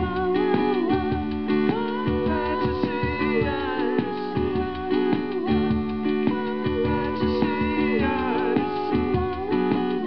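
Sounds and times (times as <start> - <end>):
man singing: 0.0 - 10.0
strummed acoustic guitar: 0.0 - 10.0.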